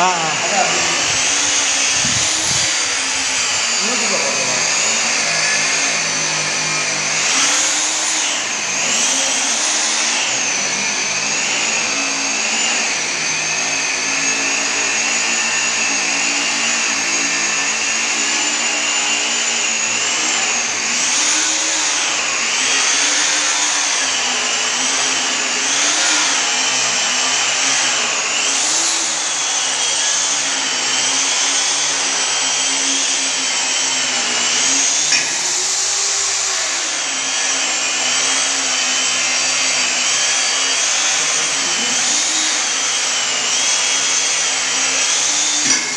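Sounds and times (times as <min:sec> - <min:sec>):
angle grinder whining on metal: 0:00.0 - 0:45.9.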